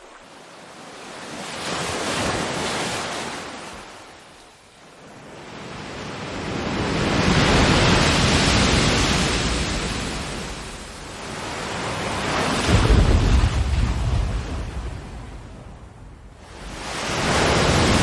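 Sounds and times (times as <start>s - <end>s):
ocean waves washing onto shore: 0.0s - 18.0s.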